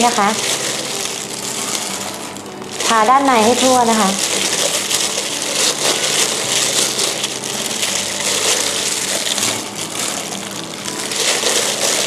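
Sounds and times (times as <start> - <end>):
plastic gloves and bag crinkling: 0.0 - 12.0.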